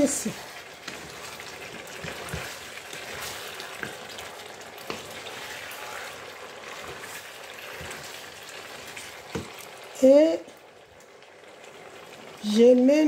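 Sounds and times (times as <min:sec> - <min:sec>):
wooden spatula stirring: 0:00.0 - 0:10.6
meat and onion sizzling in pan: 0:00.0 - 0:13.0.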